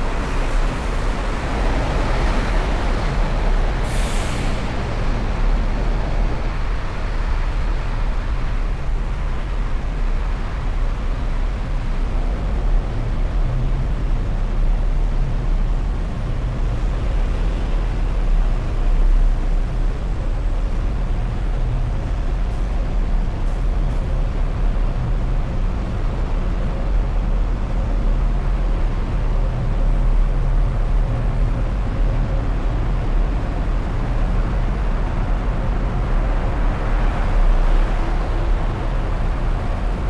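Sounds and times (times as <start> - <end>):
vehicle rumble in traffic: 0.0 - 40.0.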